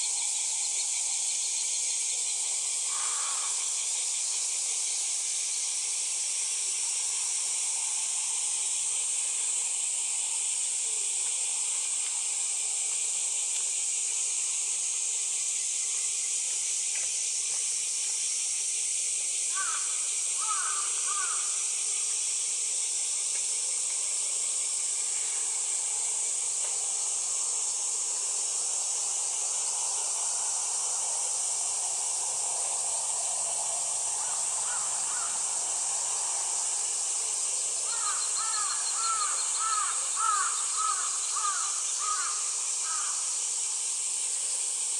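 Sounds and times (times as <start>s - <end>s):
steady high-pitched hiss: 0.0s - 44.9s.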